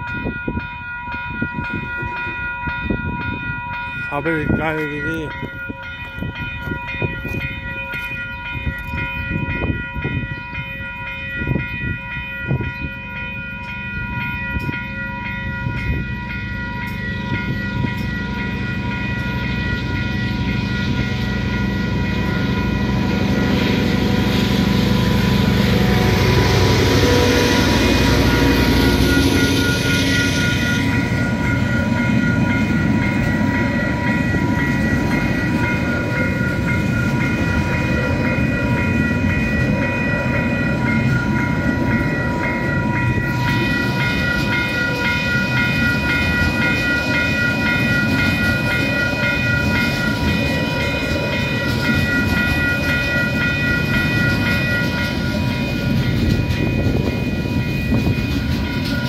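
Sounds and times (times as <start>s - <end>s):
diesel locomotive engine rumble: 0.0s - 59.0s
level crossing alarm bells: 0.0s - 59.0s.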